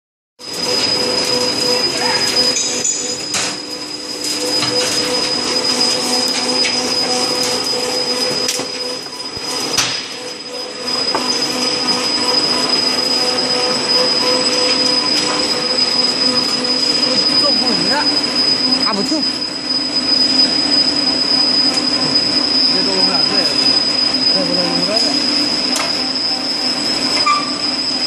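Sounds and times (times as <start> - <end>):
moulding machine whining: 0.4 - 28.0.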